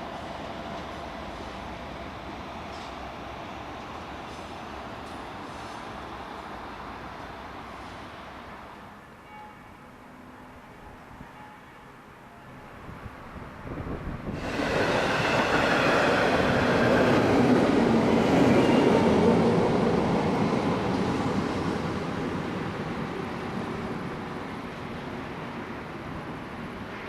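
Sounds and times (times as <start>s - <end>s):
train passing on rails: 0.0s - 27.0s.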